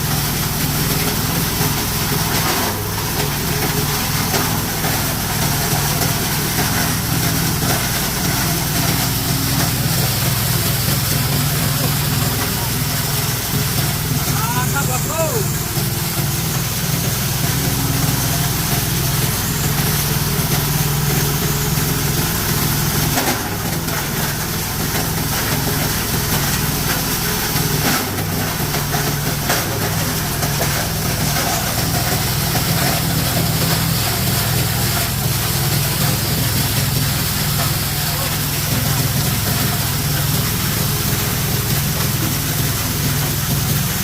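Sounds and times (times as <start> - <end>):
plastic crusher machine hum: 0.0 - 44.0.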